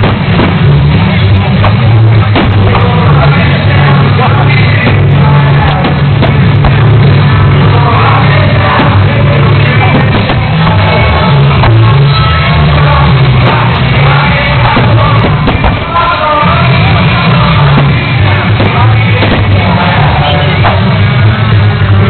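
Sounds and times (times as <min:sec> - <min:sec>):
loud rock music with singing: 0:00.0 - 0:22.0.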